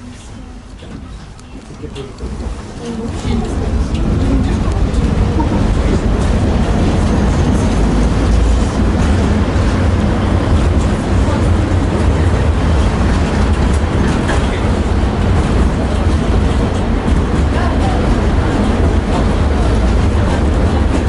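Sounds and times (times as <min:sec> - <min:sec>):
tram wheels rumbling on rails: 0:00.0 - 0:21.0.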